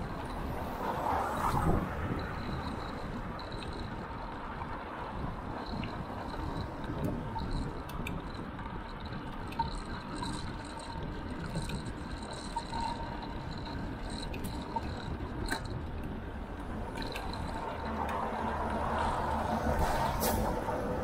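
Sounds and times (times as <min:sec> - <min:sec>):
passing traffic: 0:00.0 - 0:21.0
tyre and road noise: 0:00.0 - 0:21.0
wind buffeting microphone: 0:00.0 - 0:21.0.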